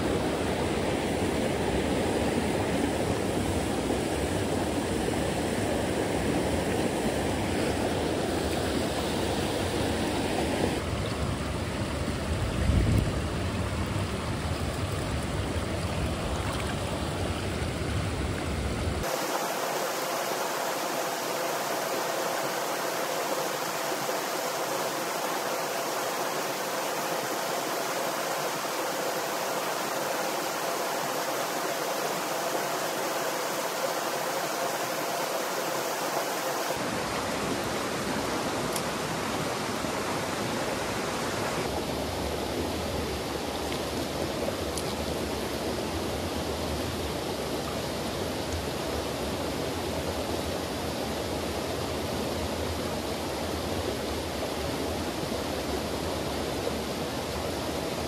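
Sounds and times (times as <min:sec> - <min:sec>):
stream water rushing over rocks: 0:00.0 - 0:58.0.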